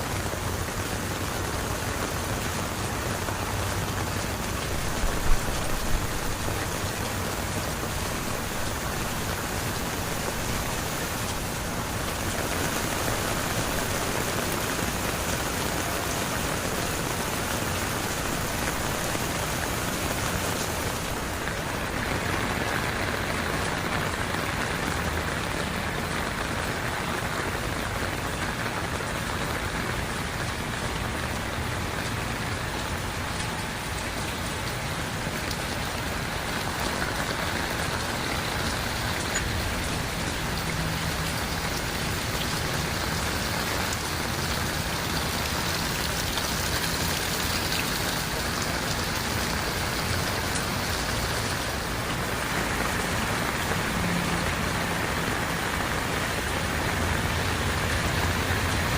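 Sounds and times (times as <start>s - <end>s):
heavy rain pattering: 0.0s - 58.9s.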